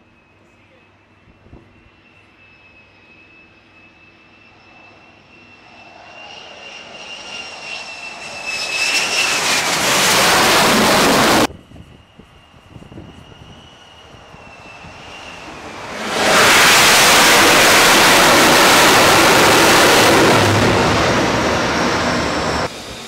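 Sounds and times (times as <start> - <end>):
jet engine whine: 0.0 - 23.0.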